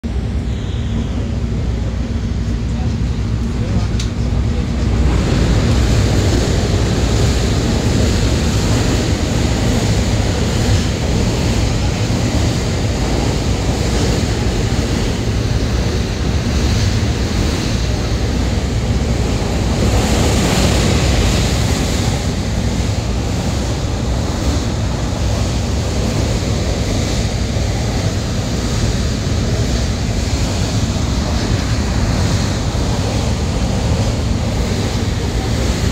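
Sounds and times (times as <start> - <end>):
train wheels rumbling on track: 0.0 - 35.9.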